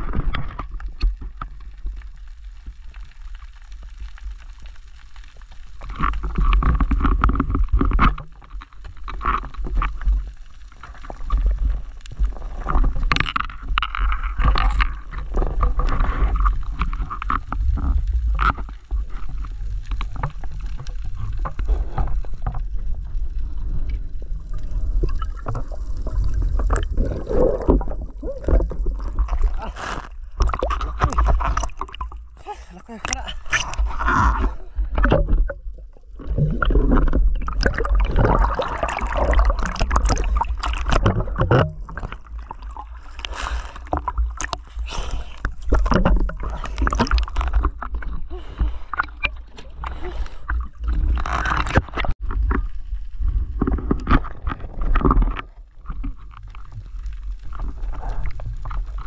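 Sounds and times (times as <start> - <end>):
clicks and crackles underwater: 0.0 - 59.0
muffled underwater rumble: 0.0 - 59.0.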